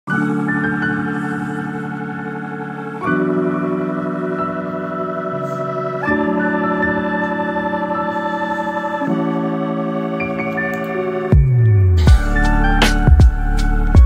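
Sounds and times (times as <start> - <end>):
organ-like chords: 0.1 - 14.0.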